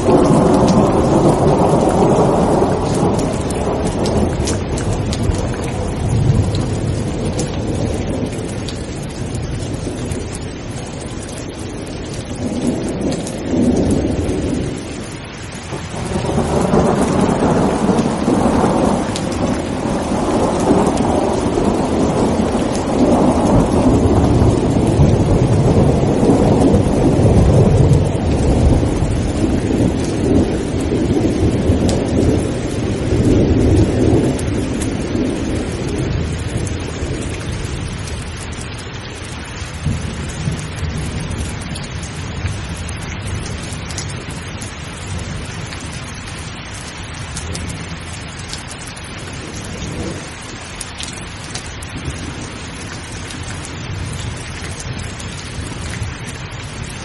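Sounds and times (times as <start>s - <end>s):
rolling thunder: 0.0s - 38.7s, 39.8s - 50.4s
rain falling steadily: 0.0s - 57.0s.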